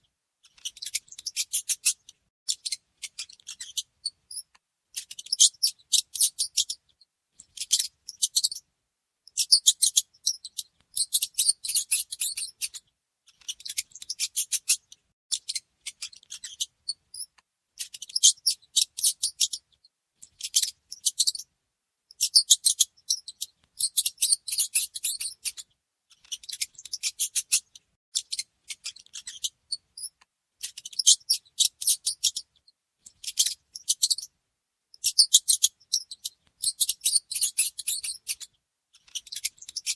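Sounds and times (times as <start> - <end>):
mouse squeaking: 0.4 - 8.6, 9.3 - 21.5, 22.1 - 34.3, 34.9 - 39.9.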